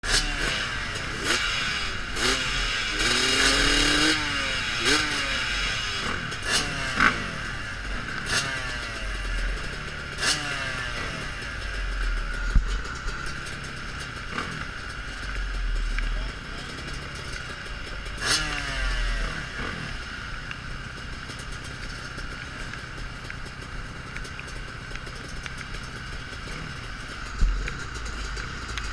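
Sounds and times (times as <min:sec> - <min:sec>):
motocross engine revving: 0:00.0 - 0:28.9.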